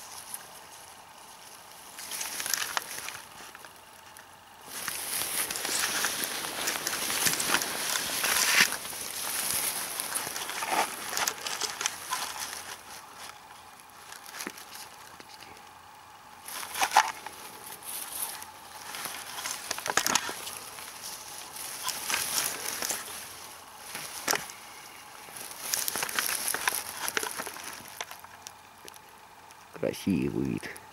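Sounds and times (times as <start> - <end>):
grass rustling and crackling: 0.0 - 30.9.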